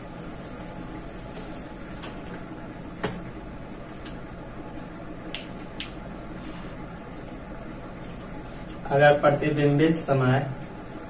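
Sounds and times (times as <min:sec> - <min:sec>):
faint high whine: 0:00.0 - 0:11.0
room hiss: 0:00.0 - 0:11.0.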